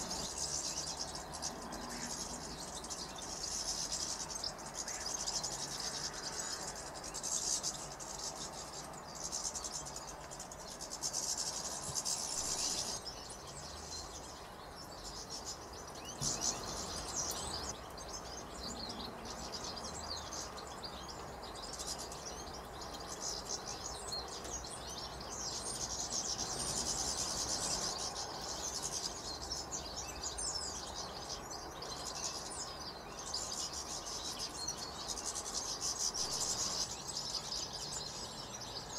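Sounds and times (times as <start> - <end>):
finches twittering: 0.0 - 38.9.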